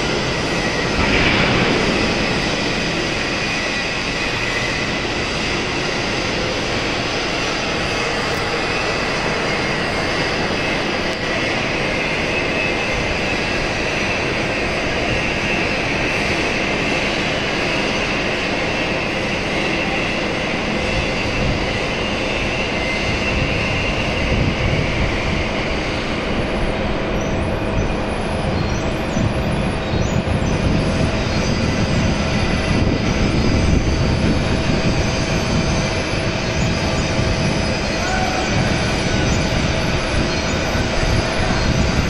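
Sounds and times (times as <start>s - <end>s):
hydraulic crane mechanical rush: 0.0s - 42.0s.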